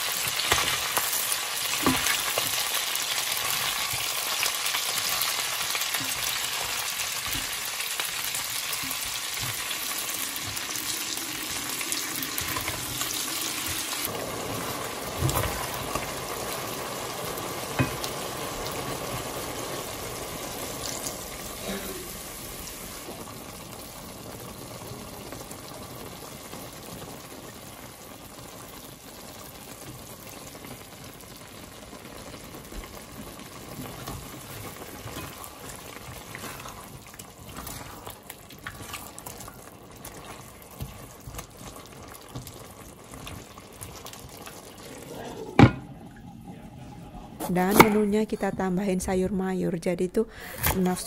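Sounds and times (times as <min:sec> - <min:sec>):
sauce simmering and bubbling: 0:00.0 - 0:47.4.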